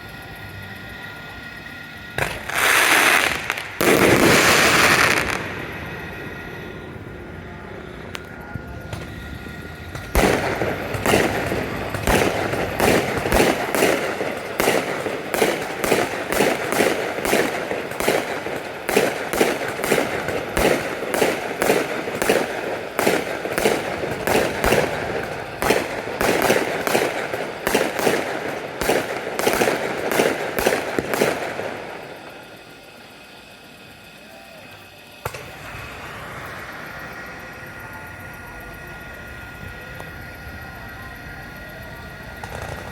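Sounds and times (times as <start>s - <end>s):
firework shells bursting: 0.0s - 42.9s.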